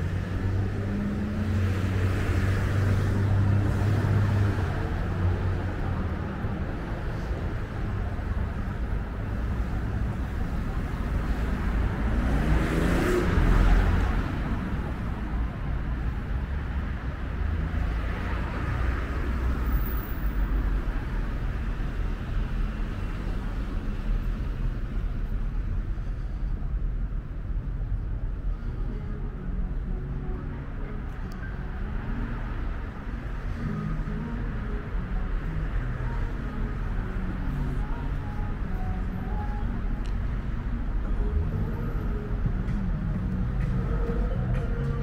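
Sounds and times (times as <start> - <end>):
traffic rumble: 0.0 - 45.0.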